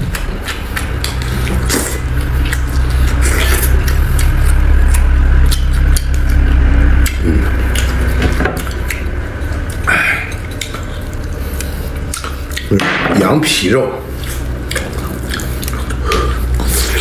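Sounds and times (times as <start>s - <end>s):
wet mouth clicks and smacks: 0.0s - 12.8s, 14.2s - 17.0s
chewing and gnawing on bone: 0.0s - 17.0s
steady low hum: 0.0s - 17.0s.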